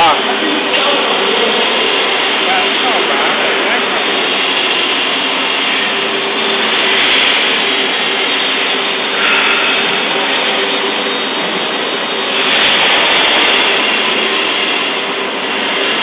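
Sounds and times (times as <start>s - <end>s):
swaging machine running: 0.0s - 16.0s.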